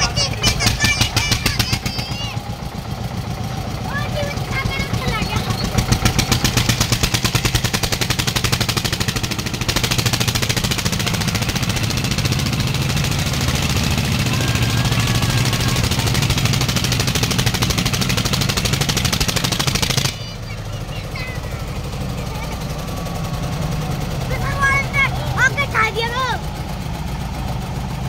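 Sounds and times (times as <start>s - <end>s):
tractor diesel engines under load: 0.0s - 28.0s.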